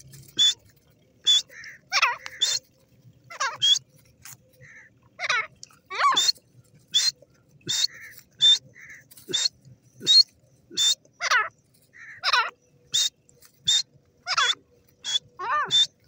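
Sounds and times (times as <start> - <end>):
bird calling harsh notes: 0.2 - 2.7, 3.3 - 16.0.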